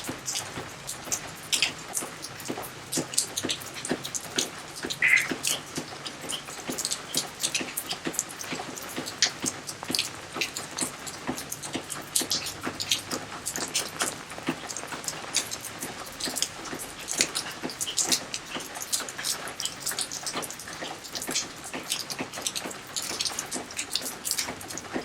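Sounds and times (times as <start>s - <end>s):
heavy raindrops striking surfaces: 0.0s - 25.0s
soft rain hiss: 0.0s - 25.0s.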